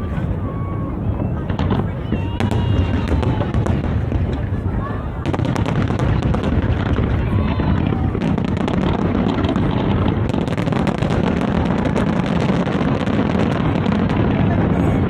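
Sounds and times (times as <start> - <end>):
firework shell bursts rumbling: 0.0 - 15.0
fireworks crackling: 0.0 - 15.0.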